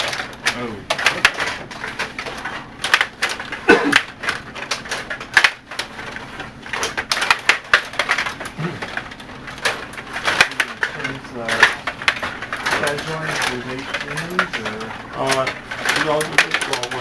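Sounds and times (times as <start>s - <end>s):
rods being worked: 0.0s - 17.0s.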